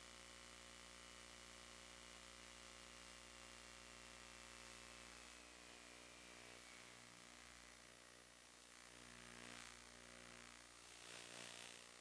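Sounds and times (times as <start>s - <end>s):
faint hiss and electrical hum: 0.0s - 12.0s.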